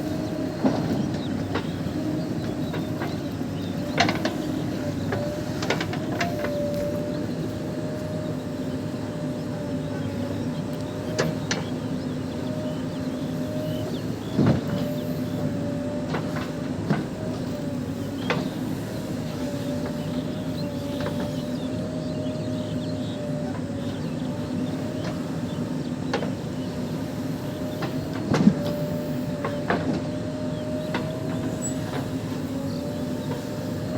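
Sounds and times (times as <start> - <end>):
diesel engine running under load: 0.0 - 33.9.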